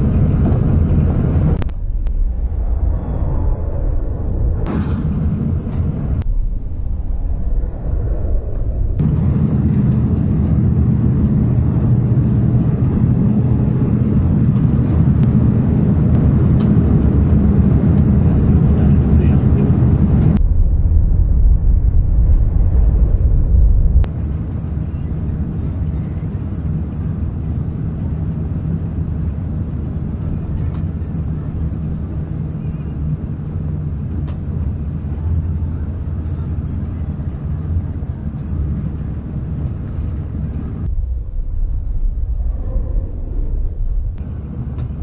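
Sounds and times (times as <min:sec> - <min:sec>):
vehicle engine and tyres droning: 0:00.0 - 0:45.0.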